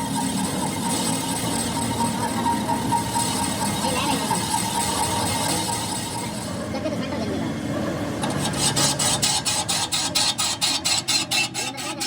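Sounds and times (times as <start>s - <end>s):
hand tool rasping: 0.0s - 6.6s, 8.2s - 12.0s.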